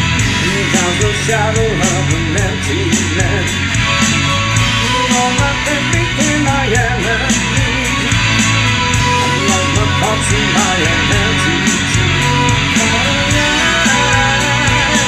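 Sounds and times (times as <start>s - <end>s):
lead guitar line bending pitch: 0.0s - 15.0s
rock band playing instrumental: 0.0s - 15.0s.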